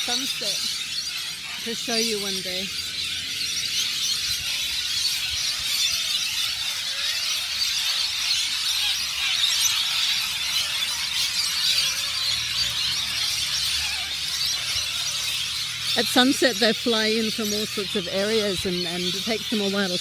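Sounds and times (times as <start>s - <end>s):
flock of birds screeching: 0.0s - 20.0s.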